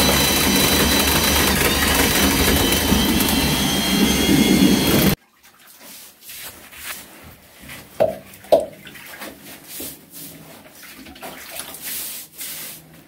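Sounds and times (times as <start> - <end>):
brush scrubbing concrete wall: 0.1 - 8.0, 8.9 - 13.0.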